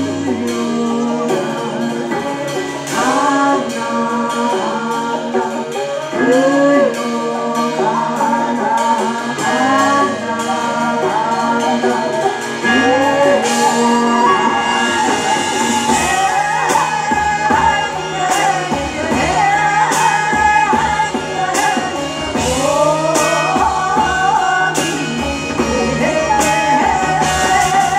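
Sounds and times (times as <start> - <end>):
guitar accompaniment: 0.0 - 27.9
person singing: 0.0 - 27.9.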